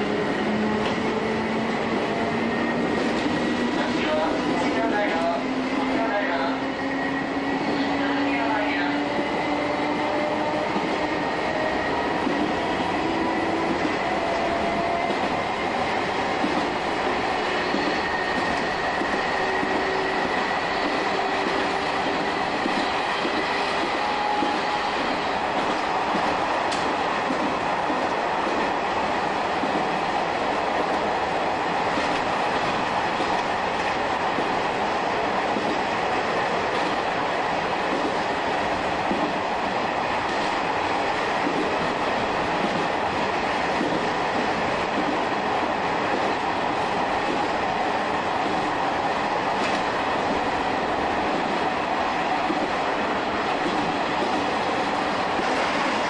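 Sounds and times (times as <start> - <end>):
train rolling noise: 0.0 - 56.0.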